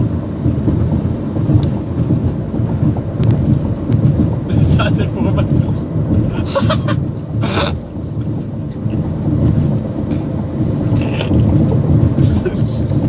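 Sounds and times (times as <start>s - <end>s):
tyre rumble on road: 0.0s - 13.0s.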